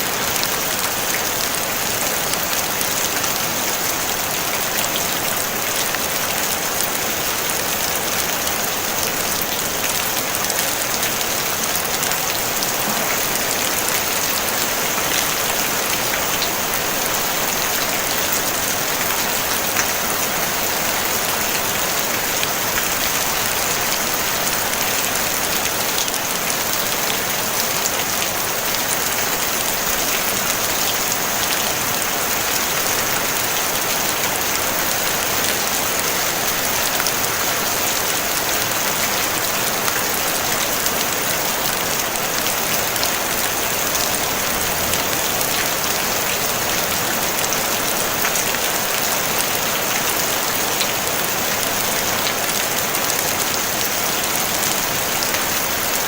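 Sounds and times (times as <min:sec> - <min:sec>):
rain on a tin roof: 0:00.0 - 0:56.0.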